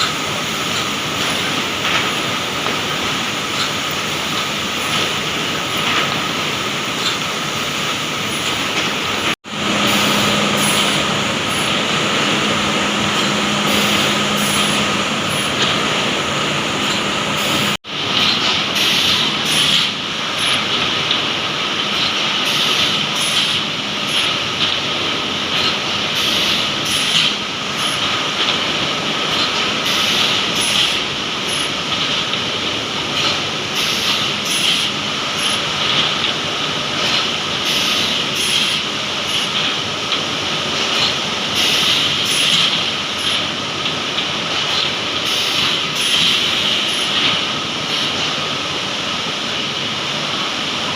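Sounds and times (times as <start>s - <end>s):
woodworking machinery running: 0.0s - 50.9s.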